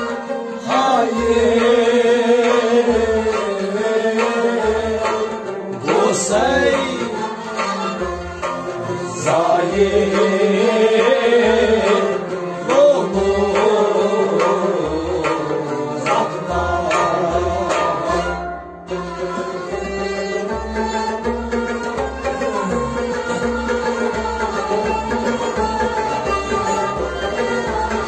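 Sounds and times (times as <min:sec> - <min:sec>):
man singing: 0:00.0 - 0:08.2, 0:08.8 - 0:28.0
harmonium drone: 0:00.0 - 0:28.0
plucked lute: 0:00.0 - 0:28.0
drum beat: 0:00.8 - 0:28.0.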